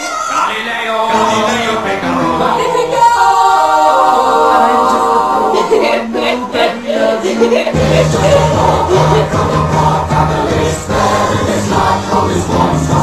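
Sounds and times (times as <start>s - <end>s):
voices singing a cappella: 0.0s - 13.0s.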